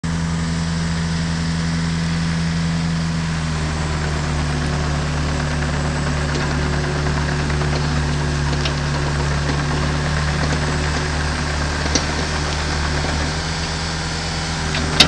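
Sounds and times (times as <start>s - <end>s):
excavator engine idling: 0.0s - 15.0s.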